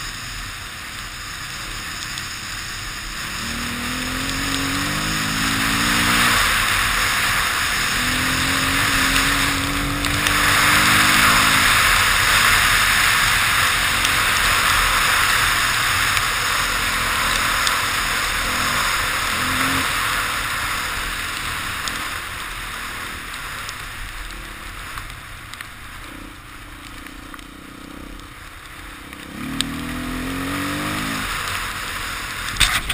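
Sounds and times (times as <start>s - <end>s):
dirt bike engine revving: 1.2s - 25.0s, 25.8s - 32.9s.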